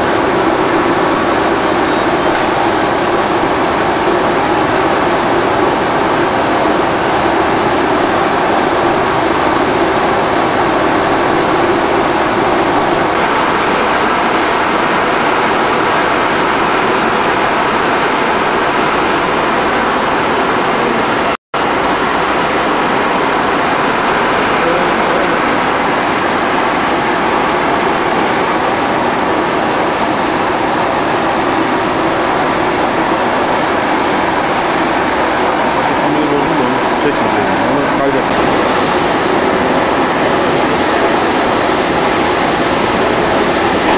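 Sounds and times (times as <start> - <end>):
blower fans rushing: 0.0 - 43.9.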